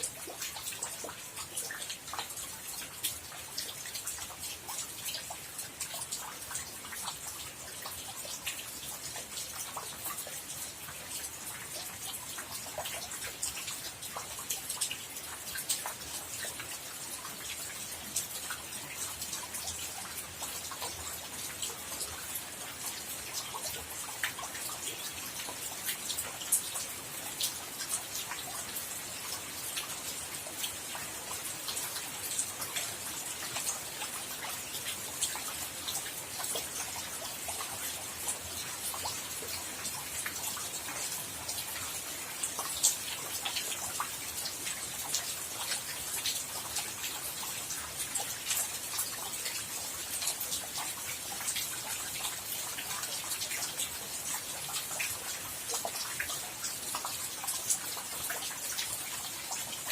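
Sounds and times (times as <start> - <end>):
raindrops striking nearby: 0.0 - 59.9
steady rain falling: 0.0 - 59.9.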